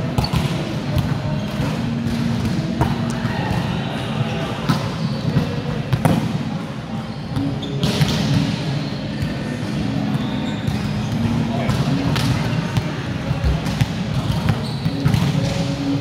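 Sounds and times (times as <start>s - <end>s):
hubbub of voices: 0.0s - 16.0s.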